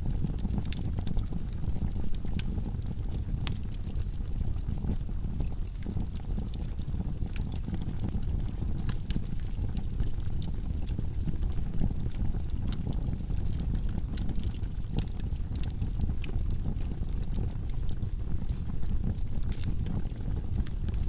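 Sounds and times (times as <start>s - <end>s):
burning wood crackling and popping: 0.0s - 21.0s
log fire rumbling: 0.0s - 21.0s.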